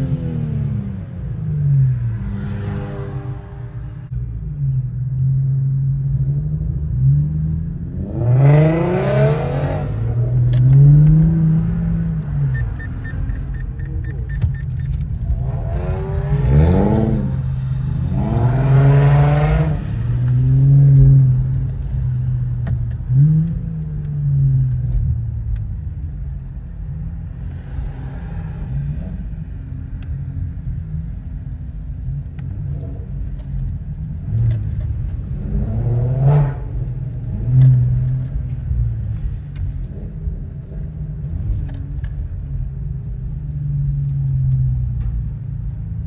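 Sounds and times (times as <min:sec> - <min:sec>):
car engine revving: 0:00.0 - 0:25.7, 0:27.2 - 0:46.0.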